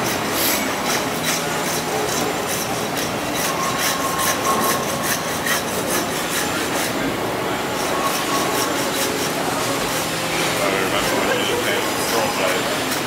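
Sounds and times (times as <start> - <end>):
blade rasping on meat: 0.0 - 13.0.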